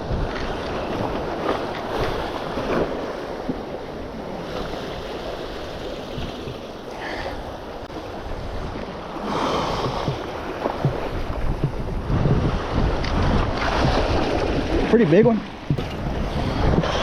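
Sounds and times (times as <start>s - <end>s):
sea waves washing against rocks: 0.0s - 17.0s
wind buffeting microphone: 0.0s - 17.0s.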